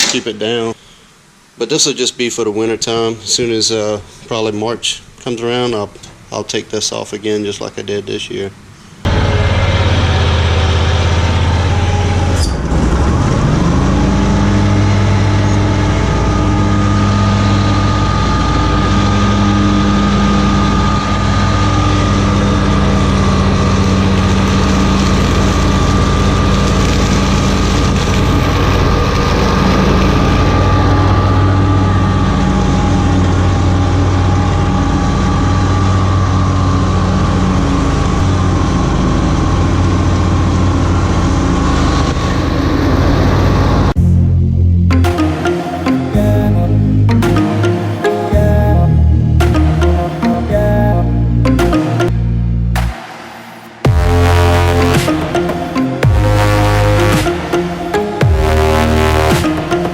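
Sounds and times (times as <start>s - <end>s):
mower engine running: 9.1s - 52.4s, 53.8s - 59.9s.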